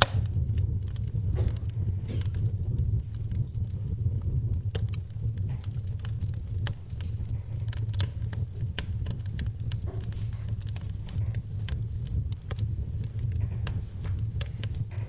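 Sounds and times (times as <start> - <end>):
low rumble of flames: 0.0 - 15.0
rain pattering: 0.0 - 15.0
wood fire crackling: 0.0 - 15.0.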